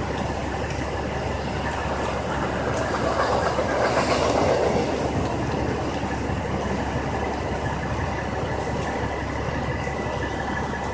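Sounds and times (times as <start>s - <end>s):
freight train rumbling past: 0.0s - 10.9s
train cars rattling: 0.0s - 10.9s.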